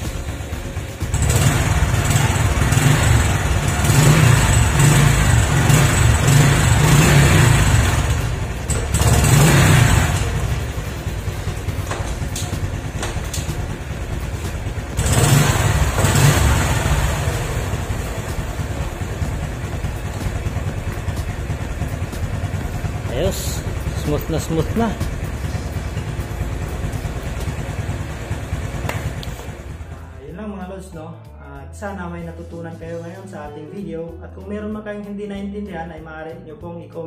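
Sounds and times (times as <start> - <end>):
motorcycle engine revving: 0.0 - 30.2.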